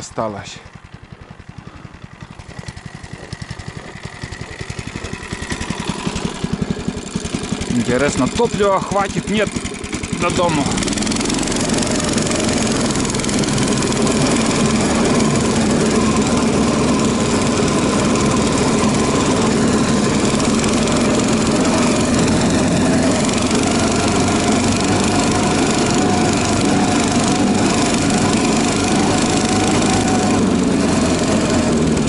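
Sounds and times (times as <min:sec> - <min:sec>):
small petrol engine running: 0:00.0 - 0:32.0.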